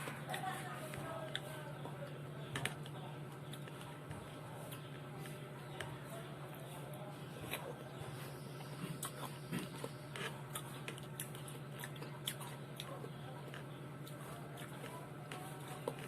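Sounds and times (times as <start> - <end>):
person chewing food: 0.0 - 16.0
steady low hum: 0.0 - 16.0.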